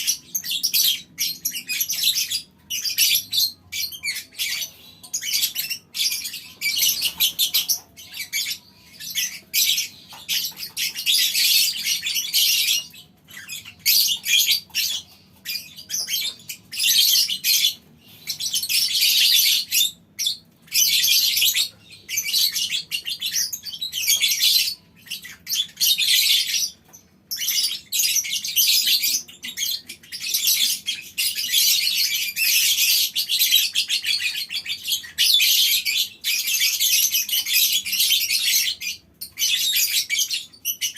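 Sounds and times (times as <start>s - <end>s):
lovebirds chattering shrilly: 0.0s - 40.9s.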